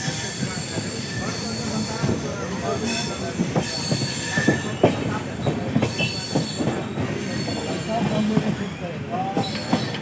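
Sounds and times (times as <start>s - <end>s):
high-pitched train squeals: 0.0s - 10.0s
train rumbling: 0.0s - 10.0s.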